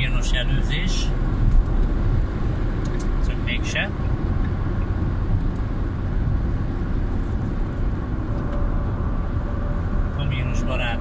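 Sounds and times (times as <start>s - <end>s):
car cruising at motorway speed: 0.0s - 11.0s
tyre and engine noise: 0.0s - 11.0s.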